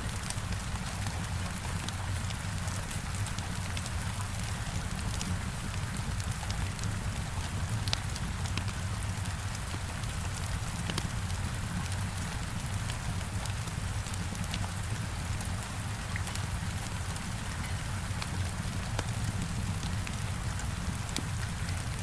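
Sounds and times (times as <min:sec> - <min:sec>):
heavy rain against a window: 0:00.0 - 0:22.0.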